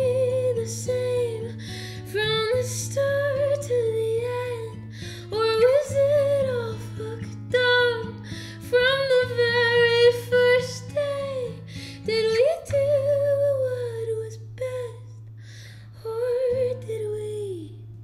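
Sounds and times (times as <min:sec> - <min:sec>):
strummed acoustic guitar: 0:00.0 - 0:15.5
woman singing: 0:00.0 - 0:18.0.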